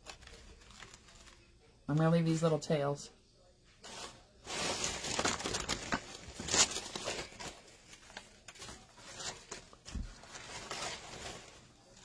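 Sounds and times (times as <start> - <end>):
fabric and ribbon crinkling: 0.0 - 1.8, 3.8 - 12.0.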